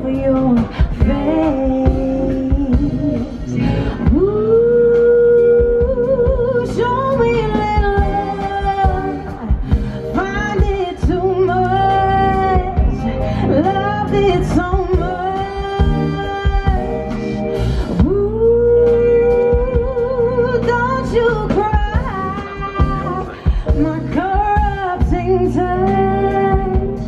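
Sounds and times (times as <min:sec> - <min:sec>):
live band accompaniment: 0:00.0 - 0:27.0
woman singing: 0:00.0 - 0:27.0.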